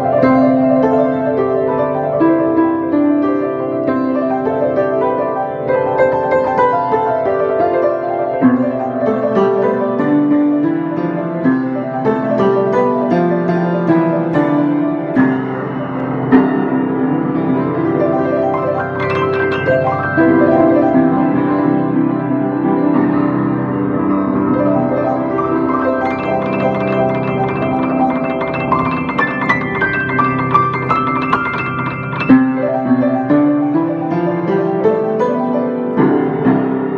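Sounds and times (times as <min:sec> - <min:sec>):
solo piano improvisation: 0:00.0 - 0:36.9.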